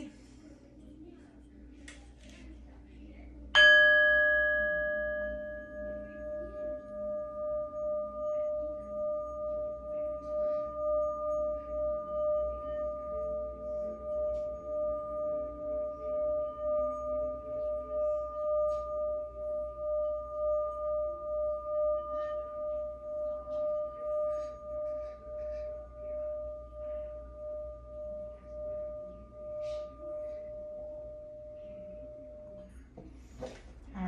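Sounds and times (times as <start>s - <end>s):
singing bowl tone: 3.5s - 33.0s.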